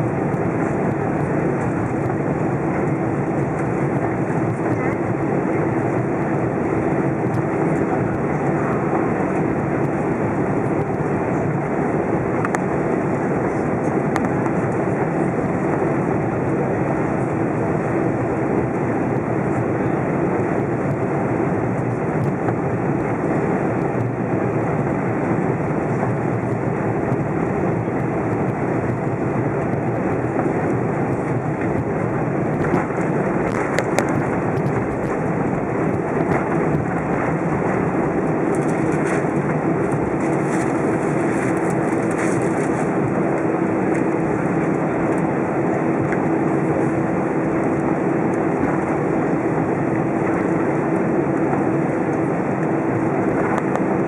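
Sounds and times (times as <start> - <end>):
jet engines running at low power: 0.0 - 54.0
low cabin hum: 0.0 - 54.0.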